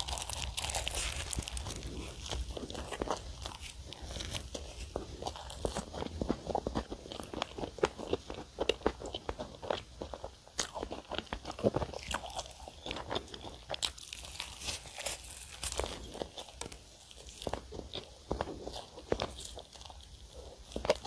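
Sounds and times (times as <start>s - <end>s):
chewing flaky pastry: 0.0s - 21.0s.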